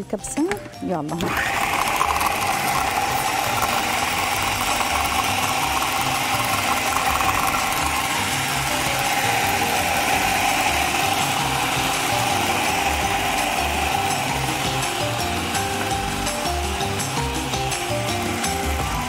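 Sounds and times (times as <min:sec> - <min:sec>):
food processor motor humming: 0:01.1 - 0:19.0.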